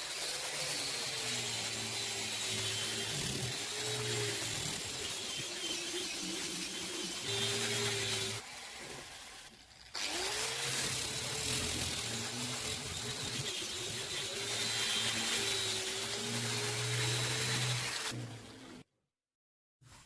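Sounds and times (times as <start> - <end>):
power tool motor running: 0.0 - 9.4, 10.0 - 18.8.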